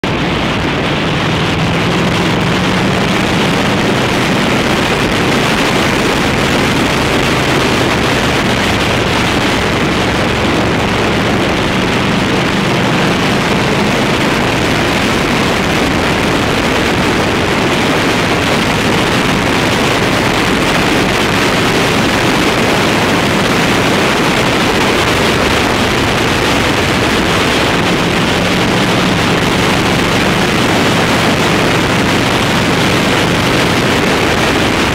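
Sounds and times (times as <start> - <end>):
motorcycle engine droning: 0.0 - 34.9
wind rush over microphone: 0.0 - 34.9.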